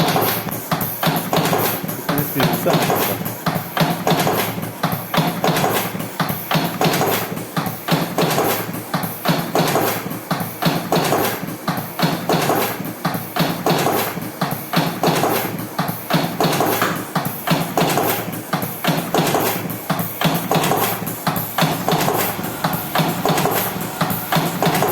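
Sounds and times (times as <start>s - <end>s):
cigarette rolling machine clacking: 0.0s - 24.9s.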